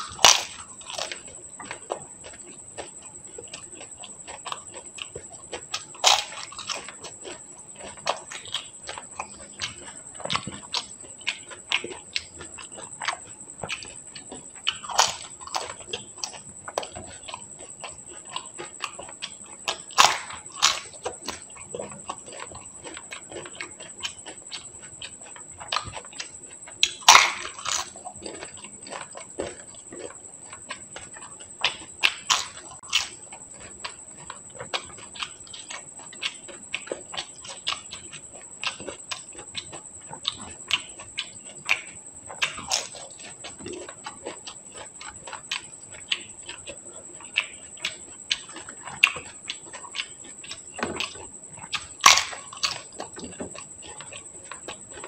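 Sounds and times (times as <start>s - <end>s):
crisp food crunching: 0.0s - 55.0s
wet chewing: 0.0s - 55.0s.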